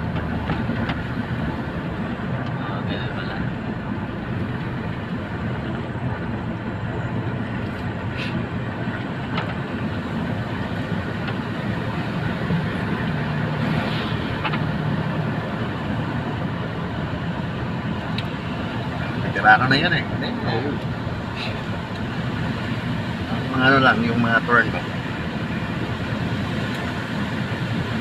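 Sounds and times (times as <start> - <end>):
car engine and tyre hum: 0.0 - 28.0.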